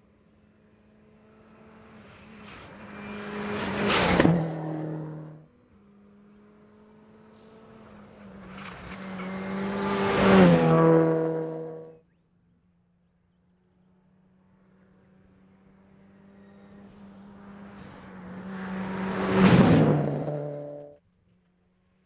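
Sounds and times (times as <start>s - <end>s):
rally cars passing: 0.0s - 12.0s, 13.5s - 21.0s.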